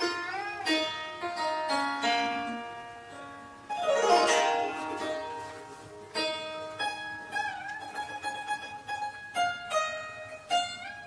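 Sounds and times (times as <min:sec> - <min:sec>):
plucked zither playing: 0:00.0 - 0:11.0.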